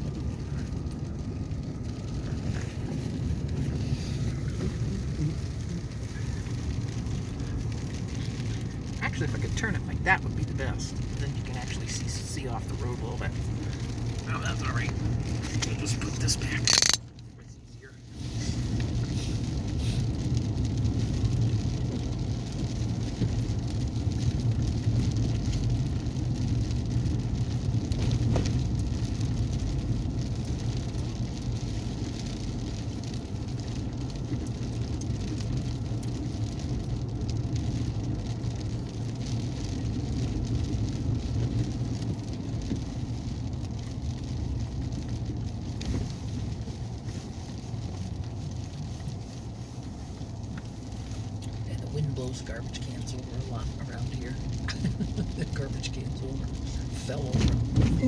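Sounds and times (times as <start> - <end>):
sleet pattering on vehicle: 0.0 - 17.2, 18.2 - 58.0.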